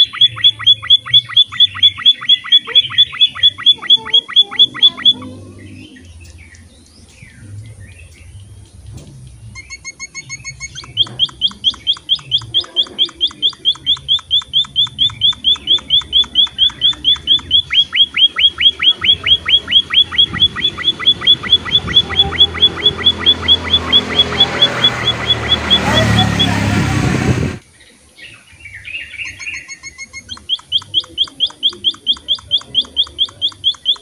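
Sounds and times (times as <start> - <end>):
finch song: 0.0 - 34.0.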